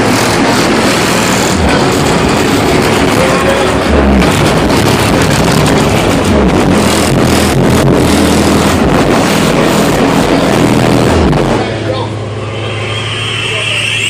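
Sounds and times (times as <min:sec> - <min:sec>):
loud distorted car stereo music: 0:00.0 - 0:14.0.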